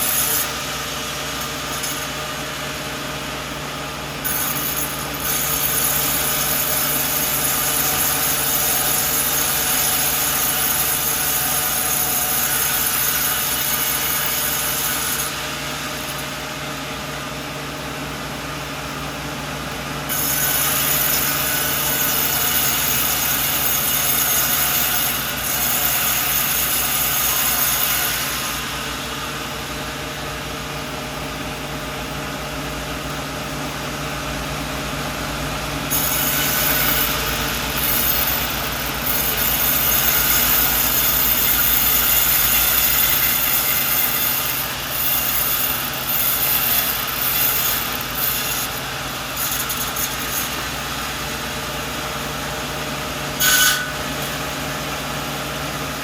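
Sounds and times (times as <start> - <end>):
saw cutting through log: 0.0 - 56.0
sawmill machine hum: 0.0 - 56.0.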